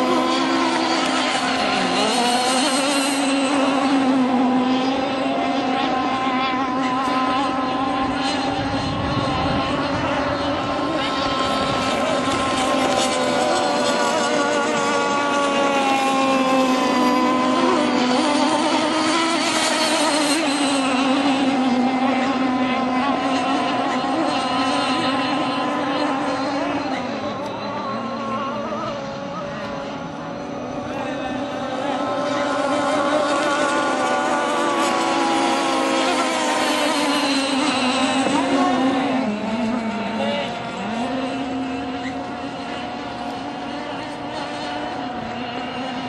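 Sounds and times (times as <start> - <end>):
model speedboat engines whining: 0.0 - 46.0.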